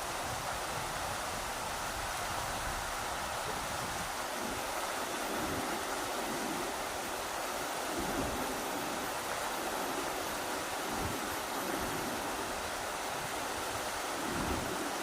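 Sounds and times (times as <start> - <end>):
low gusts of wind: 0.0 - 15.0
rushing river water: 0.0 - 15.0.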